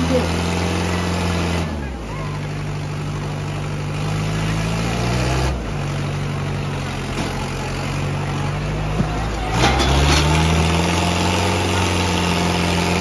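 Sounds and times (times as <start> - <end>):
tractor engines under load: 0.0 - 13.0.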